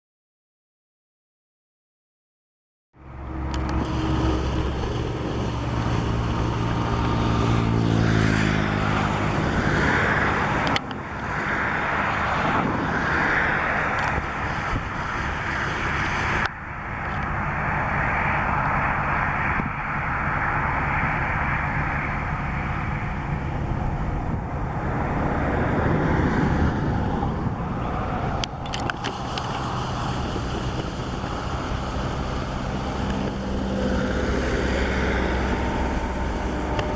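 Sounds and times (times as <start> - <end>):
helicopter rotor and engine noise: 3.0 - 36.9.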